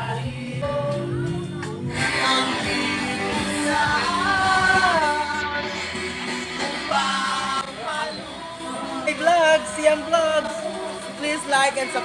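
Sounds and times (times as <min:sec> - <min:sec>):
woman singing: 0:00.0 - 0:05.8, 0:06.6 - 0:12.0
light guitar accompaniment: 0:00.0 - 0:12.0.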